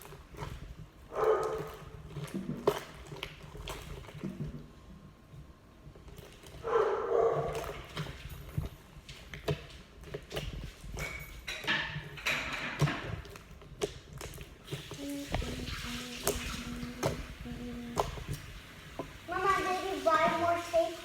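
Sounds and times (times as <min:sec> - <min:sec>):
slime squishing: 0:00.0 - 0:04.9, 0:05.9 - 0:21.0.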